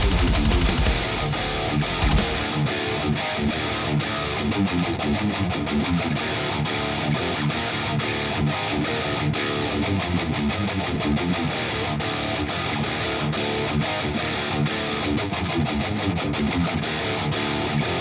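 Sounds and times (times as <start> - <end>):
electric guitar playing: 0.0 - 18.0.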